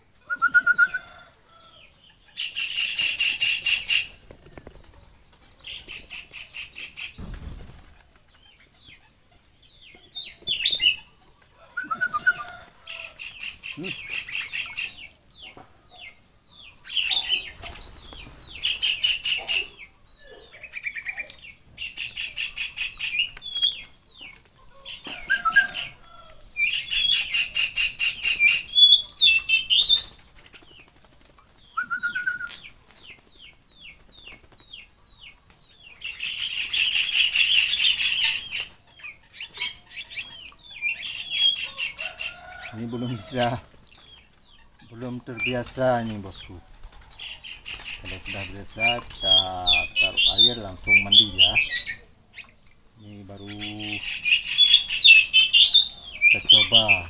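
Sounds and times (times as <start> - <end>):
birds giving harsh rasping calls: 0.0 - 9.2, 9.8 - 31.0, 35.8 - 57.0.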